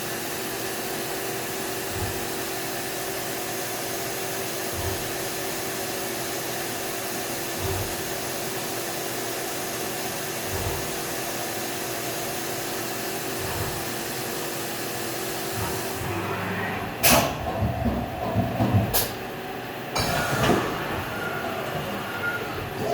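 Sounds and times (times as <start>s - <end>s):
cnc mill whirring hiss: 0.0s - 22.9s.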